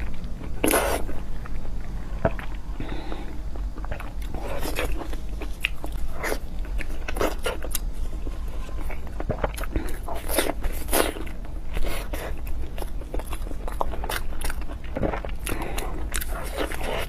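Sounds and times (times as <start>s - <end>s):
person chewing food: 0.0s - 17.0s
steady low hum: 0.0s - 17.0s.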